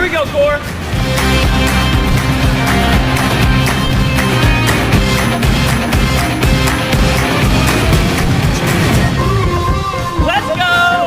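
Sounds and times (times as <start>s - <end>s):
steady drum beat: 0.0s - 10.9s
upbeat backing music: 0.0s - 11.0s.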